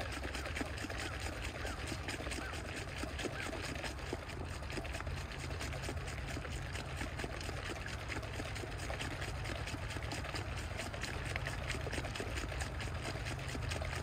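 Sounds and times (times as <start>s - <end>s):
liquid sloshing in shaken jar: 0.0s - 14.0s.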